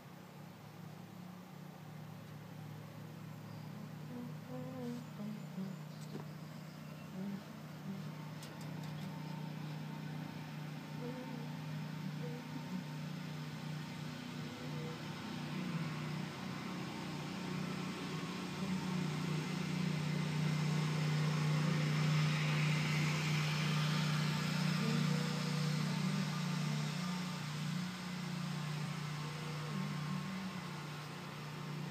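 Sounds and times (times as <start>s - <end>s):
low steady motor hum: 0.0s - 31.9s.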